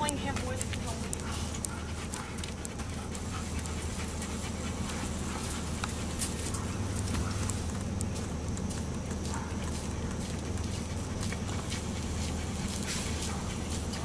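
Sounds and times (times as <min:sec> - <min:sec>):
dog panting: 0:00.0 - 0:14.0
steady low hum: 0:00.0 - 0:14.0.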